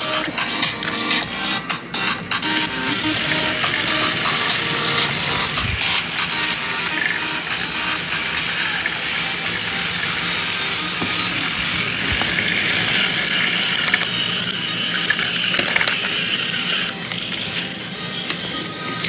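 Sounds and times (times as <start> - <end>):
high whine: 0.0 - 19.0
toy train motor whirring: 0.0 - 19.0.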